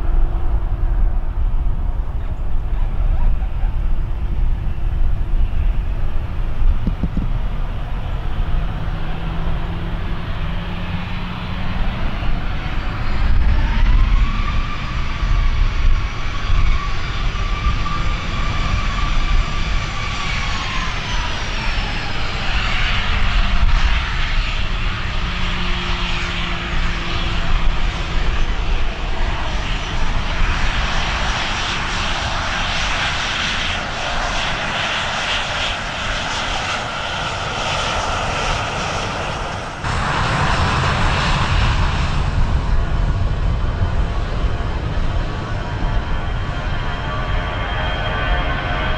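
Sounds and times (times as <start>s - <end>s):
jet engine roar: 0.0s - 48.9s
jet engine whine: 0.0s - 48.9s.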